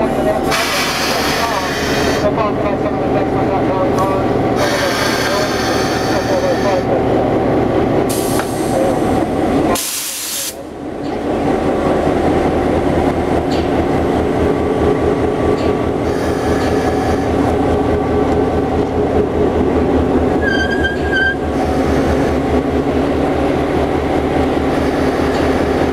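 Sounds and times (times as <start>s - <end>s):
diesel locomotive rumbling: 0.0s - 25.9s.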